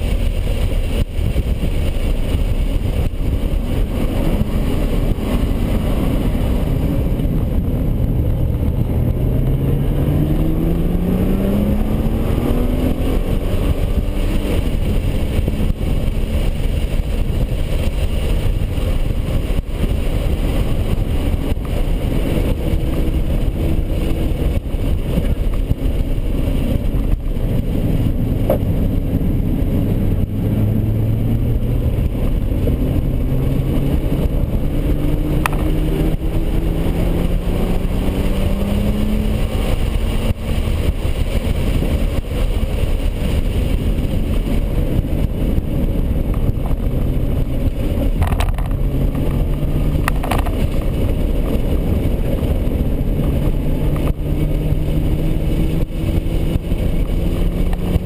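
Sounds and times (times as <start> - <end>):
car engine running hard: 0.0 - 58.0
road and tyre noise: 0.0 - 58.0.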